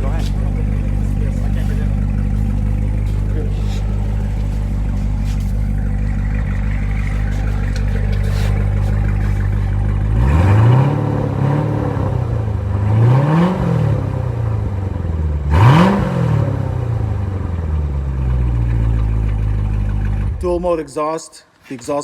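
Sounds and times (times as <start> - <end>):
car engine idling and revving: 0.0 - 20.8.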